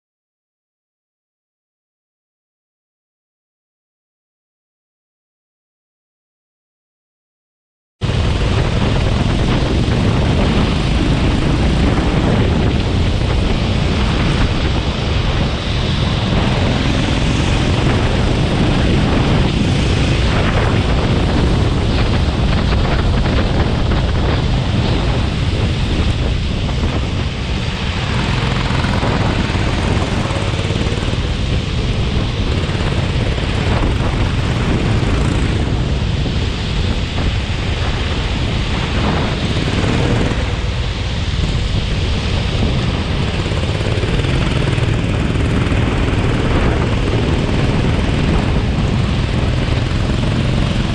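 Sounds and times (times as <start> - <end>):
go-kart engine: 8.0 - 50.9
wind buffeting microphone: 8.0 - 50.9.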